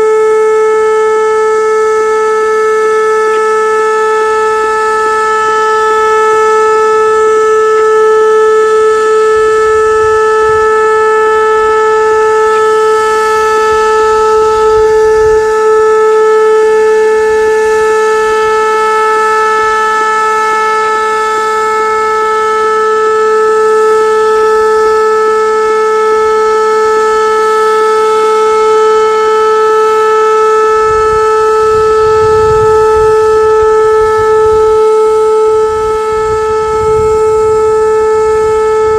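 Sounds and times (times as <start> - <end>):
steady warning siren tone: 0.0 - 38.9.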